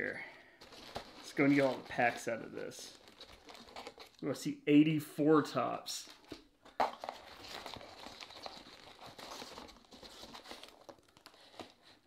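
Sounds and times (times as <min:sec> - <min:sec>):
rustling through packing peanuts: 0:00.0 - 0:04.2, 0:06.2 - 0:12.0.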